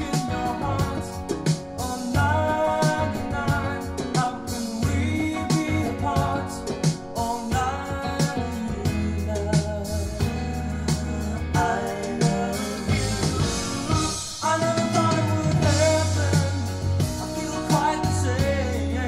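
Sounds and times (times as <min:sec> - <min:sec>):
rock song with singing: 0:00.0 - 0:19.0.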